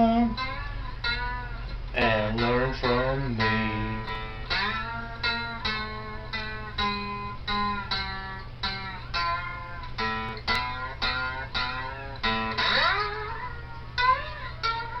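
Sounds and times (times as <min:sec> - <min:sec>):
guitar picking single notes: 0:00.0 - 0:15.0.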